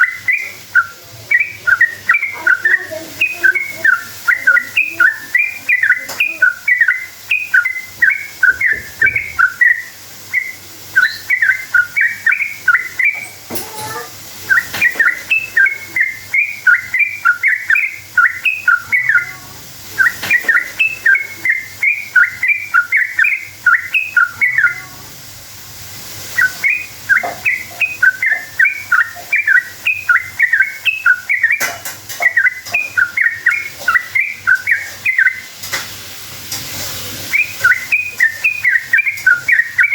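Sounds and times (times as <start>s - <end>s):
bulbul chirping song: 0.0s - 25.0s, 26.2s - 35.5s, 37.3s - 39.9s.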